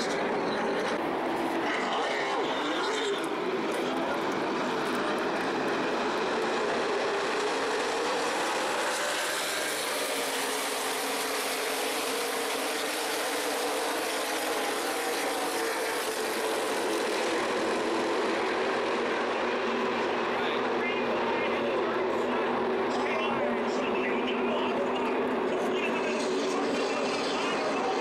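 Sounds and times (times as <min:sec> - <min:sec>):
stock car engines droning: 0:00.0 - 0:28.0.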